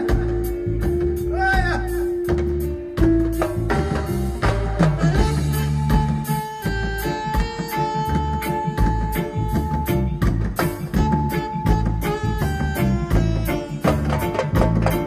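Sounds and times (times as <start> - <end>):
electric guitar: 0.0 - 15.0
hand drums: 0.0 - 15.0.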